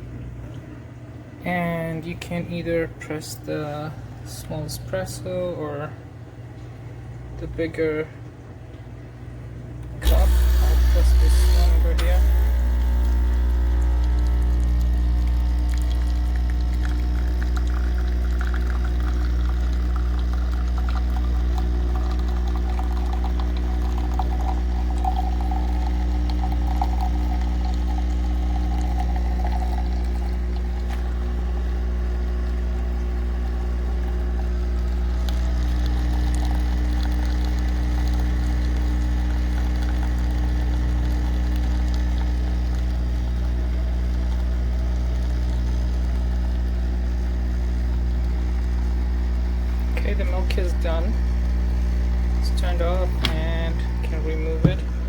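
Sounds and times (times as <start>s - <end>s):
espresso machine pump buzzing: 9.7s - 55.0s
coffee gurgling into cup: 10.0s - 55.0s.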